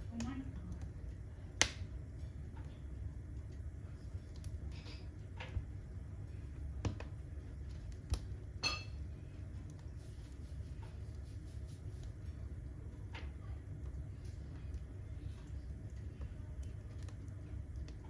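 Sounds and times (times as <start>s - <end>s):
firewood burning low rumble: 0.0s - 18.0s
firewood crackling and popping: 0.0s - 18.0s.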